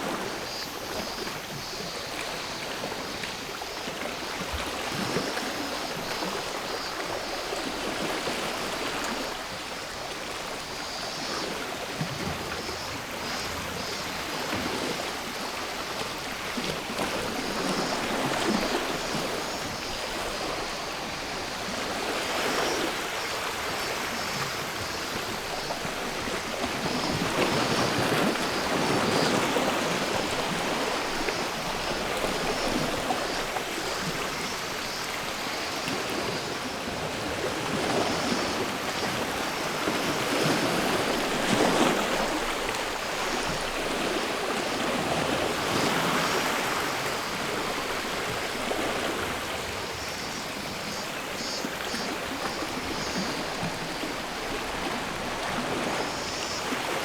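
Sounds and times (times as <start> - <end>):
faint cicadas droning: 0.0 - 57.0.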